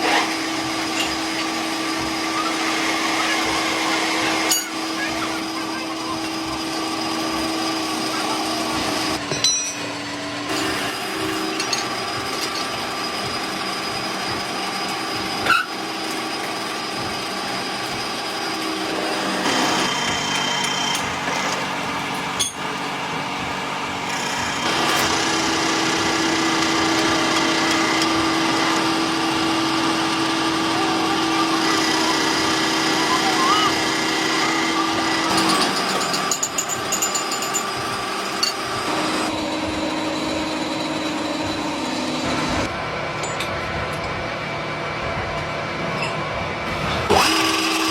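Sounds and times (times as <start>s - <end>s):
power tools whining: 0.0s - 44.3s, 45.4s - 47.9s.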